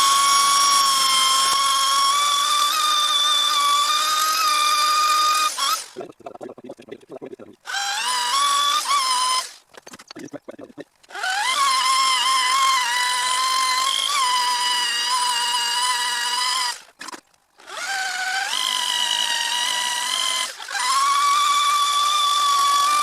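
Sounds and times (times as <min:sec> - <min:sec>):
electric drill sanding whine: 0:00.0 - 0:06.0, 0:07.7 - 0:09.6, 0:11.1 - 0:23.0.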